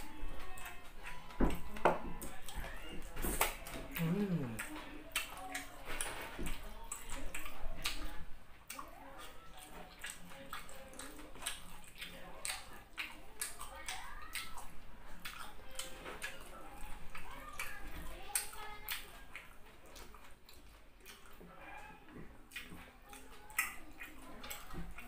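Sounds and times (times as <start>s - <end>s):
wet chewing and lip-smacking: 0.0s - 25.0s.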